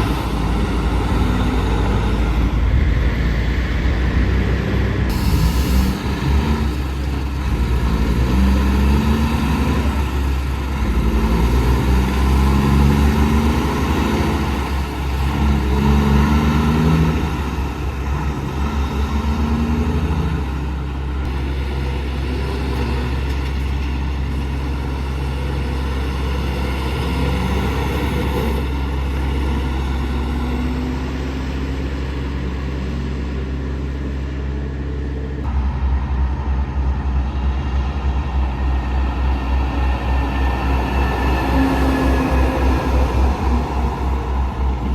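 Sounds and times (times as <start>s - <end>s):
heavy trucks passing: 0.0s - 44.9s
truck engine climbing through gears: 0.0s - 44.9s.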